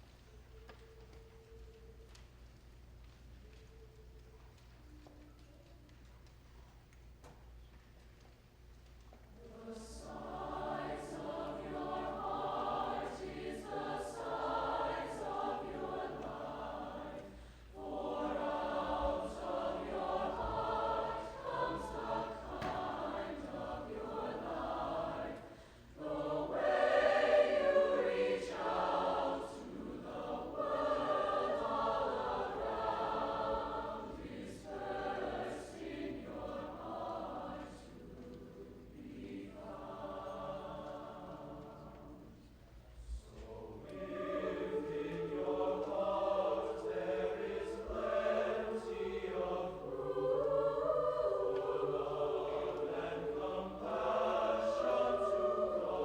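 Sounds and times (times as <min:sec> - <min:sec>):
choir singing: 0:09.3 - 0:56.0.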